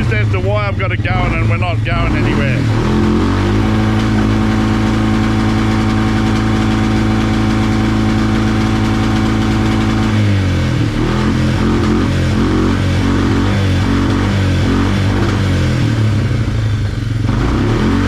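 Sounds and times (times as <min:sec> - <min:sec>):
quad bike engine idling: 0:00.0 - 0:18.0.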